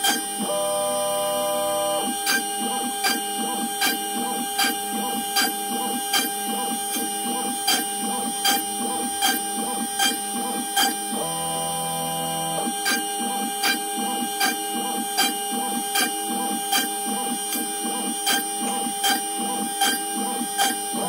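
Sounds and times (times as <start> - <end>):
machine motors humming: 0.0 - 21.0.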